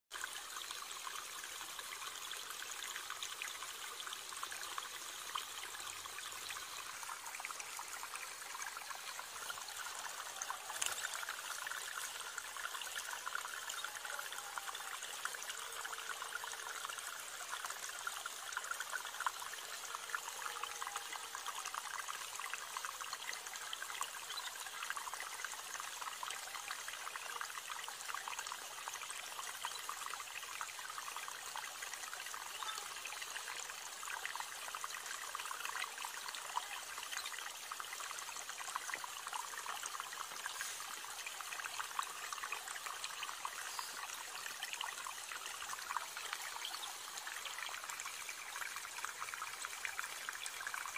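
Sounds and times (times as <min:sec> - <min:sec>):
water trickling and splashing: 0:00.1 - 0:50.9.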